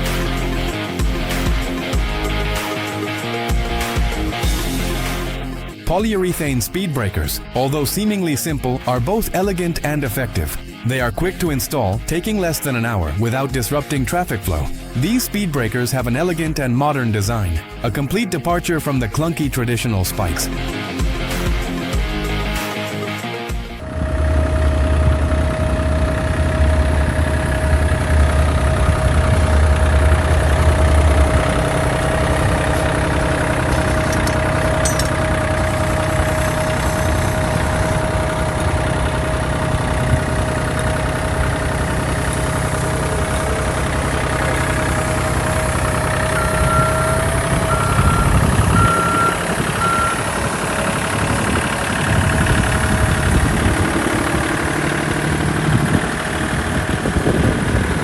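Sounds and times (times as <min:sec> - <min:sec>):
heavy engine running with whine: 0:00.0 - 0:18.2, 0:20.2 - 0:58.0.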